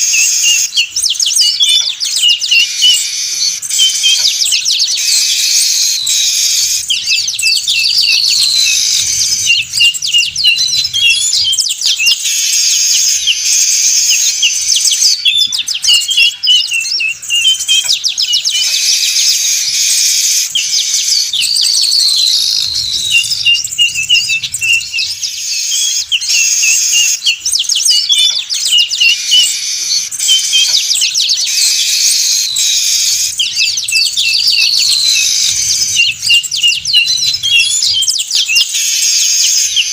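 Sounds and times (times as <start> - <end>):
bird whistles rising: 0.0 - 39.9
flock of birds chattering: 0.0 - 39.9.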